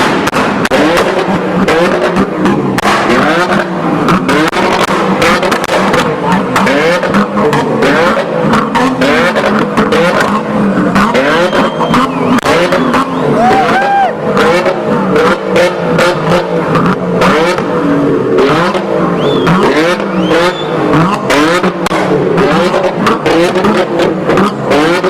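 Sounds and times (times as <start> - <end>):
exhaust pops and crackles: 0.0 - 25.0
sports car engines revving: 0.0 - 25.0.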